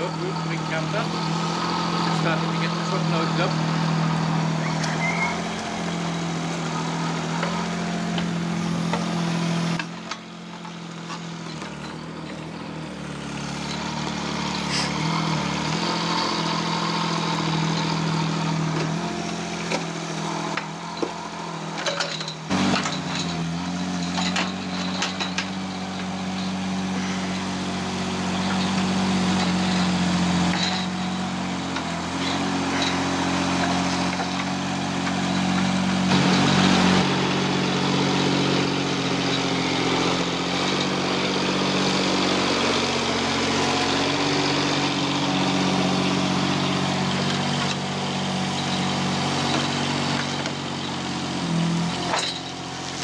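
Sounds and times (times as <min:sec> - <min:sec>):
mini digger diesel engine running: 0:00.0 - 0:53.0.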